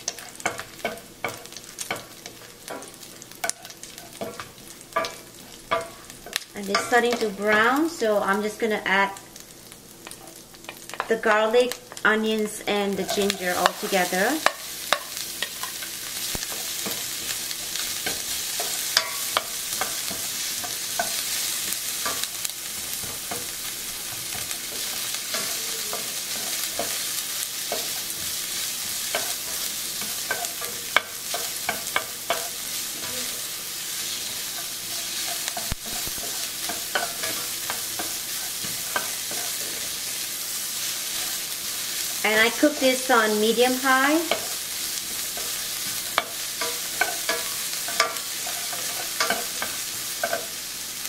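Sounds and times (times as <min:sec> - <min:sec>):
spatula scraping and tapping pan: 0:00.0 - 0:07.8, 0:11.9 - 0:43.1, 0:44.2 - 0:50.6
onions sizzling in hot oil: 0:00.0 - 0:51.0.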